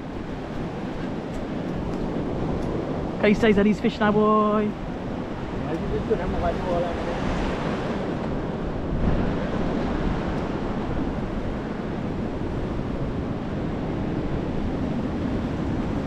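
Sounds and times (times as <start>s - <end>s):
ocean surf washing onto beach: 0.0s - 16.0s
wind buffeting microphone: 0.0s - 16.0s.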